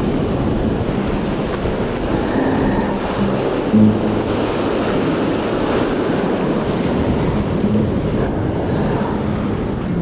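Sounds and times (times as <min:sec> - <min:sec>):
water rushing over spillway: 0:00.0 - 0:10.0
wind buffeting microphone: 0:00.0 - 0:10.0.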